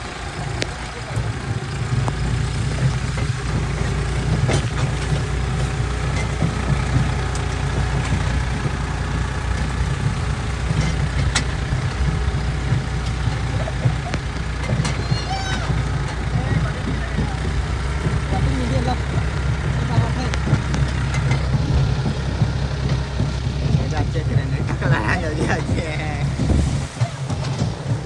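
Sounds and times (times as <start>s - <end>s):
sharp clicks and knocks: 0.0s - 28.0s
tractor engine running: 0.0s - 28.0s.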